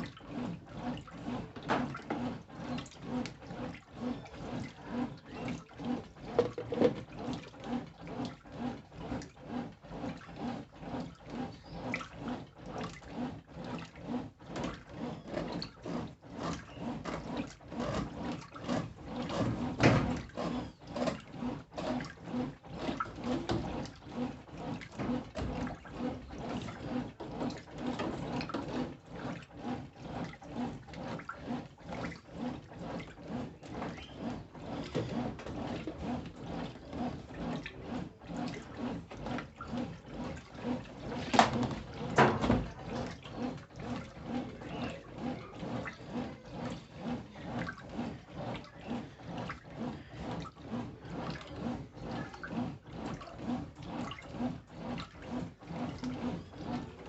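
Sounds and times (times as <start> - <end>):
washing machine sloshing water: 0.0 - 57.0.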